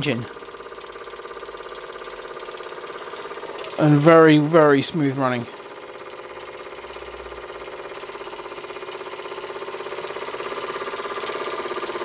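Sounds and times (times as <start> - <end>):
model steam engine running: 0.0 - 12.0.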